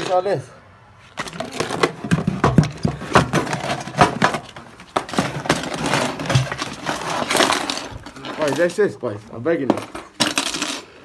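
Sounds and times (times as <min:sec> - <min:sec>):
plastic tubs and bangles clattering: 0:01.1 - 0:09.0, 0:09.6 - 0:11.0.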